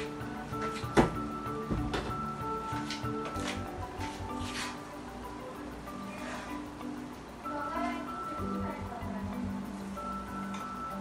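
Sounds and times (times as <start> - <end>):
background music with soft beat: 0.0 - 11.0.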